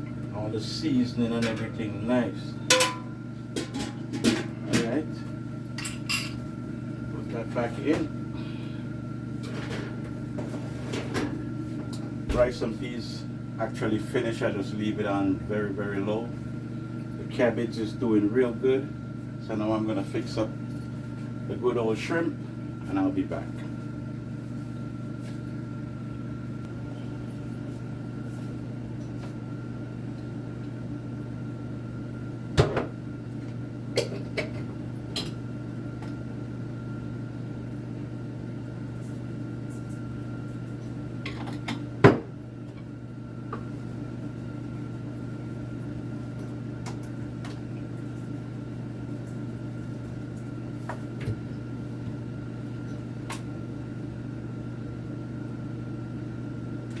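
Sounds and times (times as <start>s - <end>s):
appliance hum and whine: 0.0s - 57.0s.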